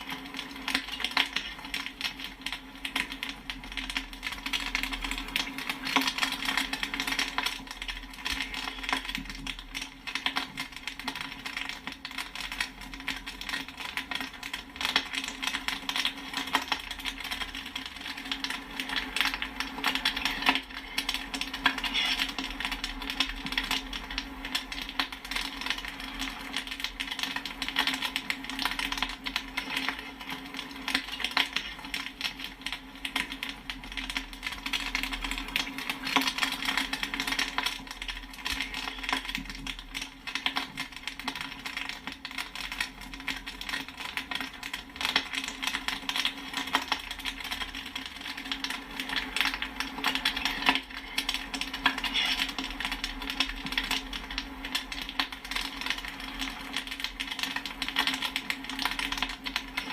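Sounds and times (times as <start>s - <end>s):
popcorn popping: 0.0s - 59.9s.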